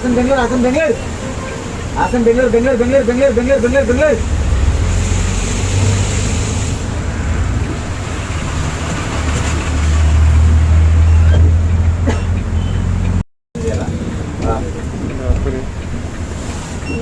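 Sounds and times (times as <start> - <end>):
road and rain hiss: 0.0 - 11.0, 11.7 - 17.0
bus diesel engine rumbling: 0.0 - 17.0.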